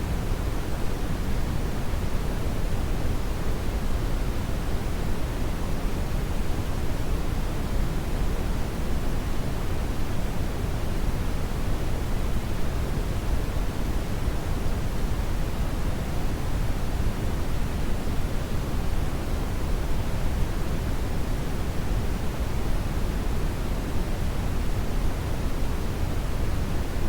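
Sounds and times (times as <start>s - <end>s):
brown noise hiss: 0.0s - 27.0s.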